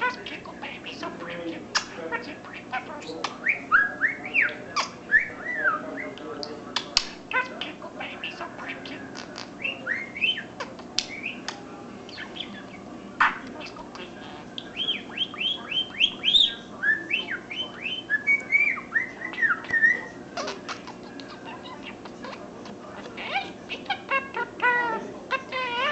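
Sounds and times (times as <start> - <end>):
budgerigar chattering and warbling: 0.0 - 25.9.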